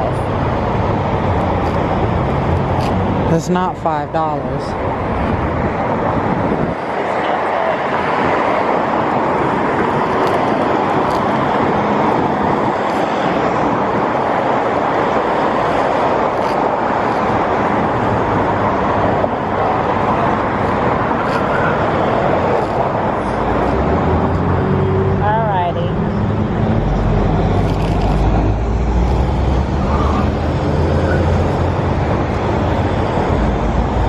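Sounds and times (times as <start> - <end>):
road vehicle noise: 0.0 - 34.0.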